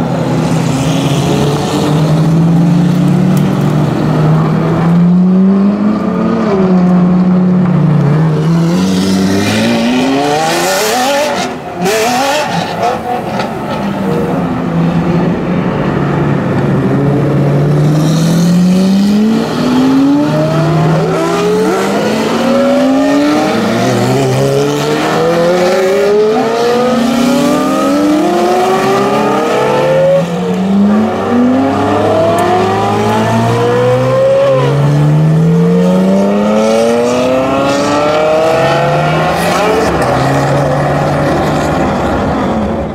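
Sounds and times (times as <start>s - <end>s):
supercar engines accelerating hard: 0.0s - 42.9s.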